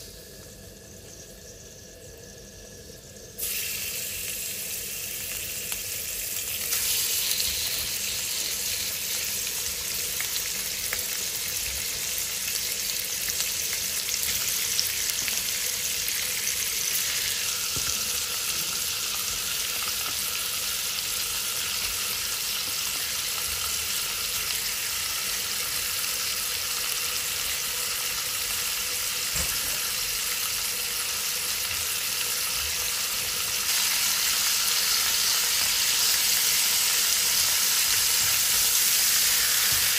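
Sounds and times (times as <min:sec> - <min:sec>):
chicken sizzling in hot oil: 0:03.0 - 0:39.9.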